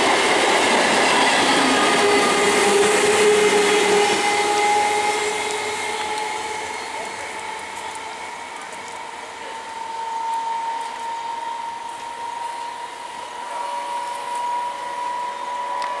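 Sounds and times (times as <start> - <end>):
train running hiss: 0.0 - 16.0.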